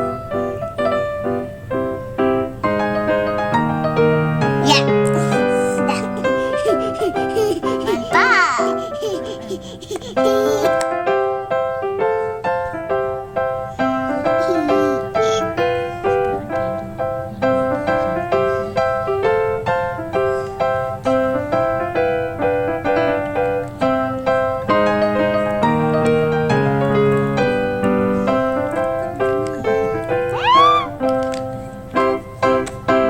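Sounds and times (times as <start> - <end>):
light piano melody: 0.0 - 33.0
lower piano chords: 0.0 - 33.0.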